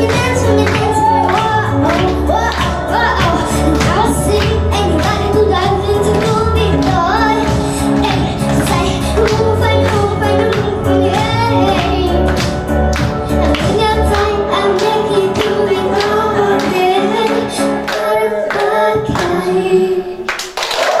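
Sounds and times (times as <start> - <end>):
pop backing track with beat: 0.0 - 19.7
girl singing into a microphone: 0.0 - 20.4.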